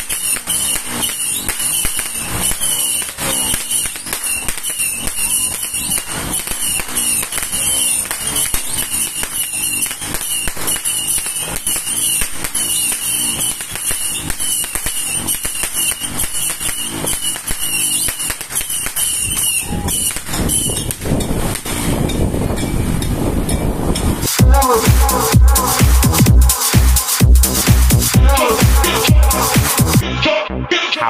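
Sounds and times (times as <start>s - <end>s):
fireworks popping and bursting: 0.0s - 30.0s.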